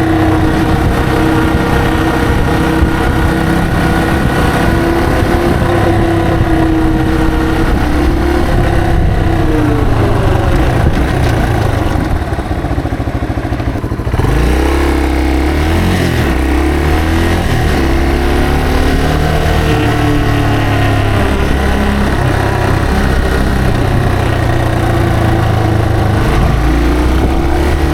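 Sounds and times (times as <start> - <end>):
motorcycle engine: 0.0 - 27.9.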